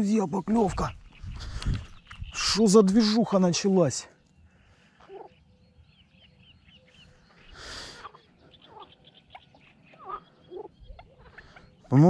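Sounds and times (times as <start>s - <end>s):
high bird chirps: 0.5s - 3.2s, 4.2s - 12.0s
lower bird calls: 0.5s - 12.0s.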